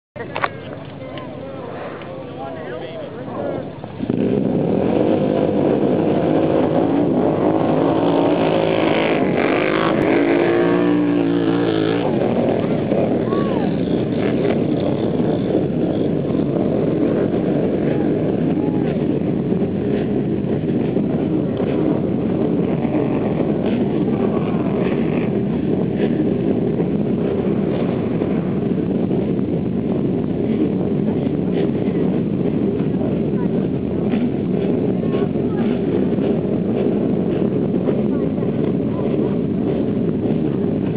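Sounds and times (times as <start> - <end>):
atv engines revving: 0.2 - 40.9
quad engines passing by: 0.2 - 40.9
wind rumbling on microphone: 0.2 - 40.9.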